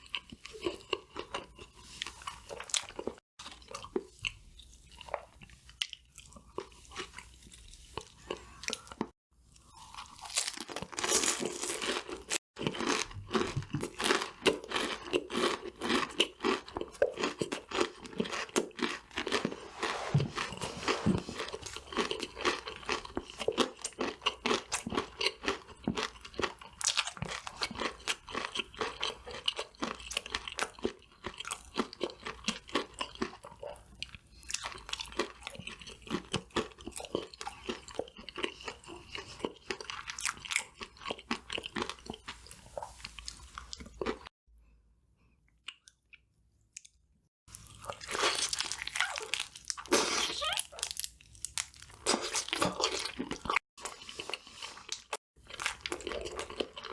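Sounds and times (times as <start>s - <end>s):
crunchy chewing of fried food: 0.0s - 44.3s, 47.5s - 56.9s.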